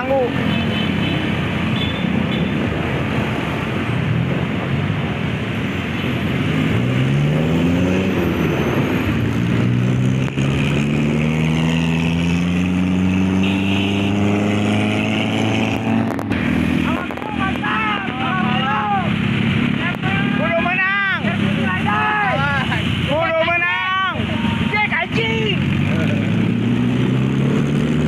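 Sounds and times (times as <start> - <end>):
road and wind noise: 0.0 - 28.0.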